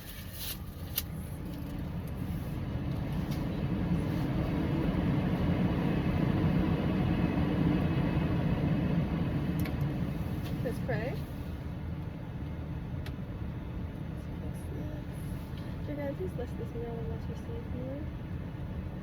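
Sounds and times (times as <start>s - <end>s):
car heater blowing: 0.0s - 19.0s.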